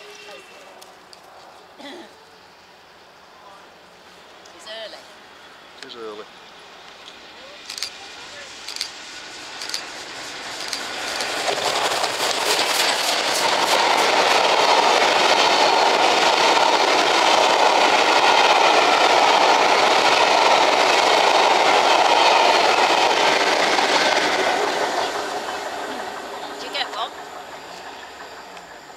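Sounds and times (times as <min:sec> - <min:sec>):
coach wheels rushing on rails: 0:00.0 - 0:01.2, 0:04.7 - 0:28.9
steam train passing at speed: 0:00.0 - 0:01.8, 0:02.4 - 0:28.9.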